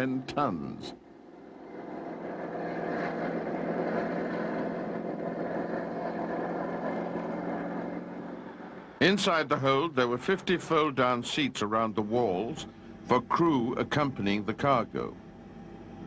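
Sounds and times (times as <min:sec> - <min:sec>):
aircraft engines droning: 0:00.0 - 0:16.0.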